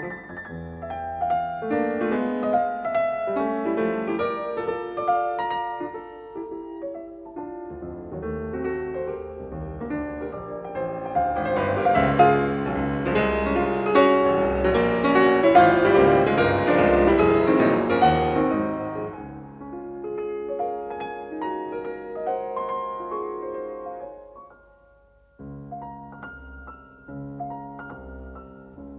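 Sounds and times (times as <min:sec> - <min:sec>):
piano music: 0:00.0 - 0:28.9.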